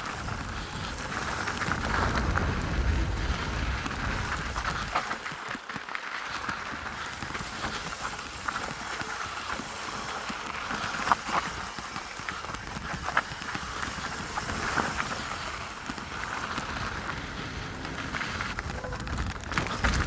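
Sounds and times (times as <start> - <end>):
bike tyres rolling over gravel: 0.0 - 20.0.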